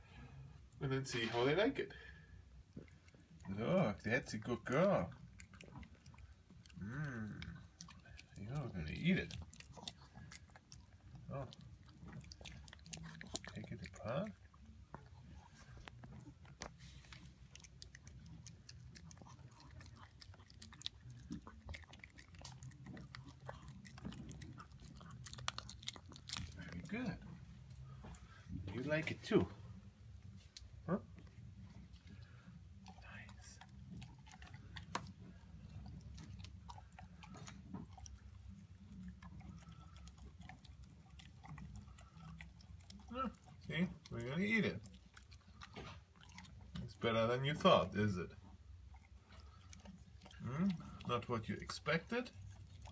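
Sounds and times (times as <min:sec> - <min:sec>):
dog chewing food: 0:01.1 - 0:52.9.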